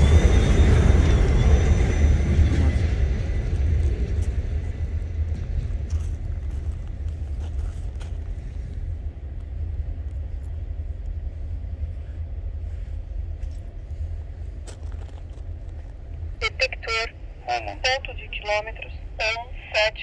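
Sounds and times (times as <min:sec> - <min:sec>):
distant freight train rumbling: 0:00.0 - 0:20.0.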